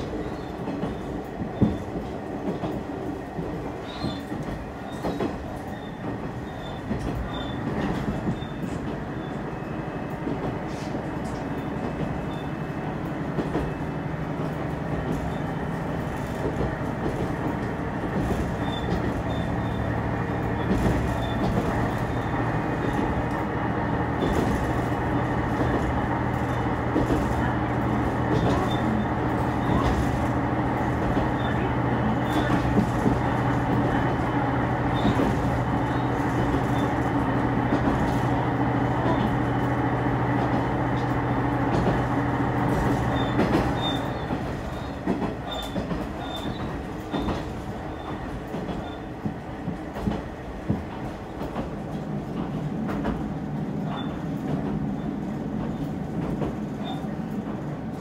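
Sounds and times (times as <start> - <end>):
diesel railcar engine droning: 0.0 - 58.0
train wheels rumbling: 0.0 - 58.0.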